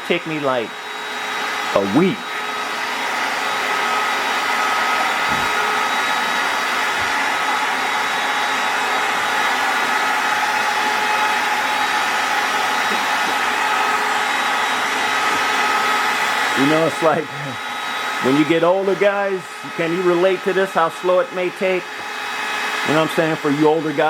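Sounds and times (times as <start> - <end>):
electric air pump running: 0.0 - 24.0.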